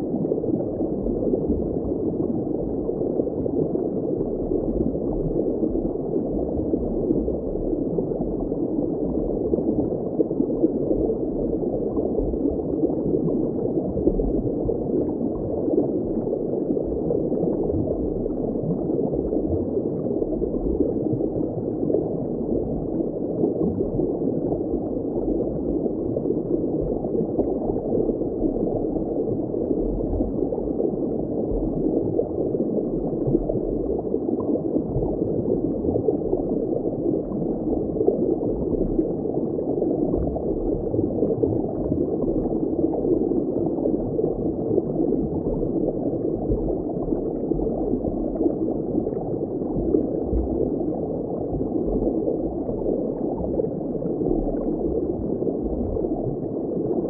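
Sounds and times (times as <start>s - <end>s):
underwater bubbling water: 0.0s - 57.0s.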